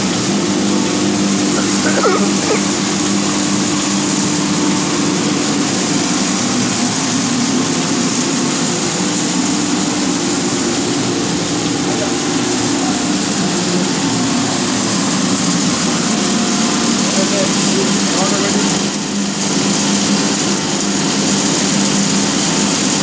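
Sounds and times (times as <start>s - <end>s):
machine running with hum and hiss: 0.0s - 23.0s.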